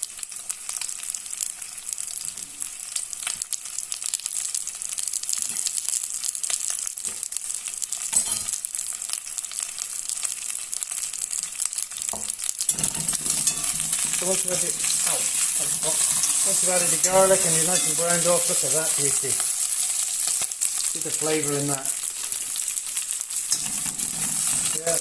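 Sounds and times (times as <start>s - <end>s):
meat and garlic sizzling in oil: 0.0s - 25.0s.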